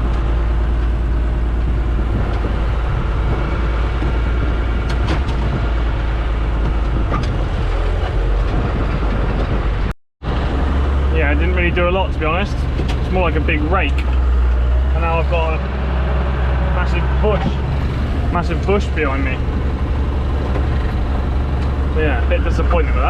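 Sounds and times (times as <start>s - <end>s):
implement clanking and rattling: 0.0s - 23.0s
tractor engine under load: 0.0s - 23.0s.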